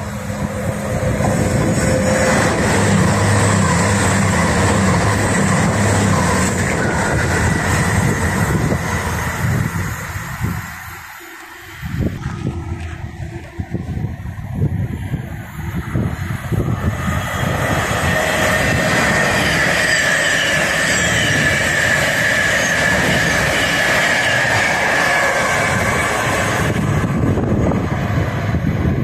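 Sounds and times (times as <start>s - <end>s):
wheels clattering on rail: 0.0s - 14.6s, 16.0s - 29.0s
wind on microphone: 0.0s - 19.9s, 21.1s - 29.0s
train passing at speed: 0.0s - 29.0s.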